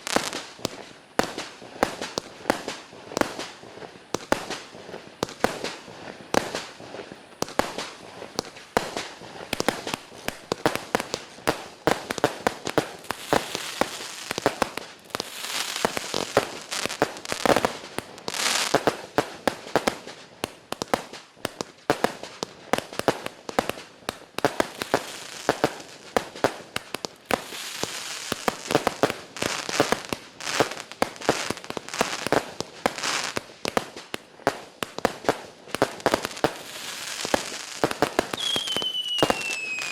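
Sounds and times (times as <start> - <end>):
fireworks cake firing shots: 7.4 - 39.9.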